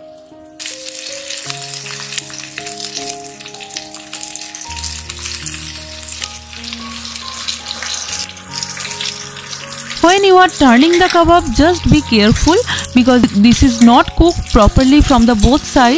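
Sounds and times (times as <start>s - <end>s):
background music: 0.0s - 15.9s
kebabs sizzling in grill pan: 0.2s - 15.9s.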